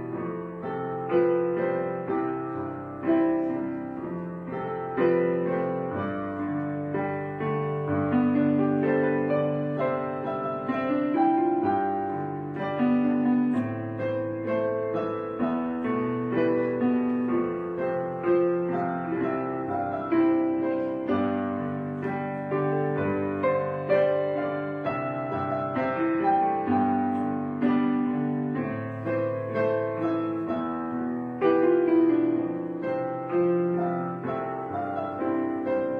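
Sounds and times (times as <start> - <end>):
gentle piano piece: 0.0 - 35.9.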